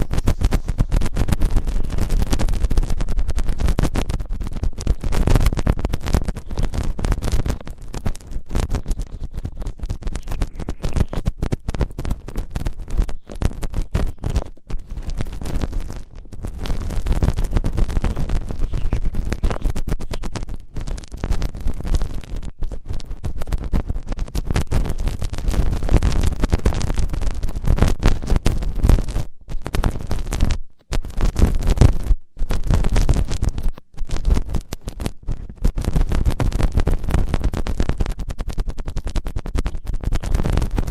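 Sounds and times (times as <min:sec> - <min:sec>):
scratching and rubbing on microphone: 0:00.0 - 0:40.9.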